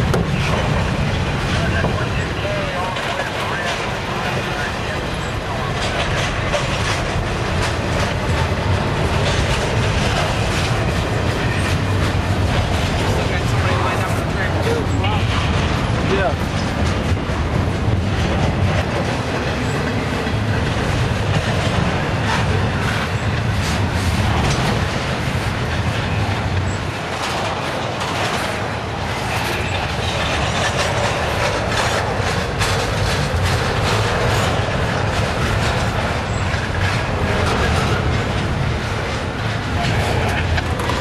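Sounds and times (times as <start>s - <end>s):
rail car clicks and clatters: 0.0s - 41.0s
train wheels rumbling on rail: 0.0s - 41.0s.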